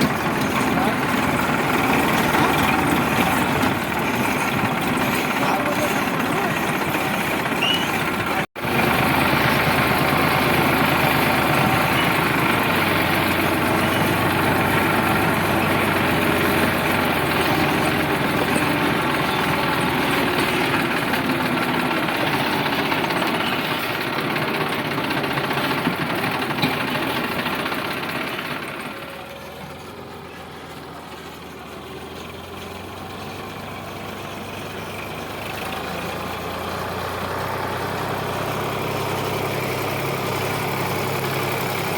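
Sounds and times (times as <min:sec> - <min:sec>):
diesel tractor engine running: 0:00.0 - 0:41.9.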